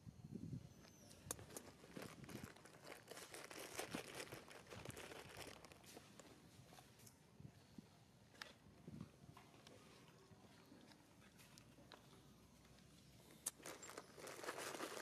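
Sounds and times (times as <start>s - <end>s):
faint crackling and rustling: 0.6s - 15.0s.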